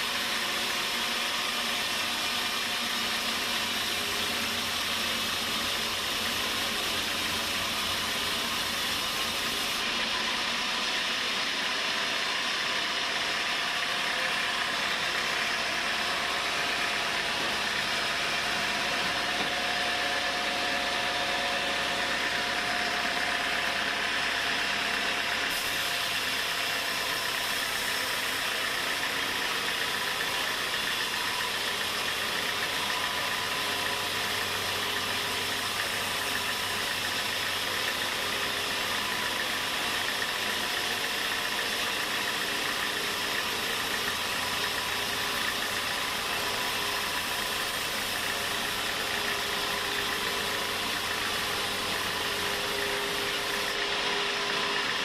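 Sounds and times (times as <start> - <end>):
sawmill machinery drone: 0.0 - 55.0.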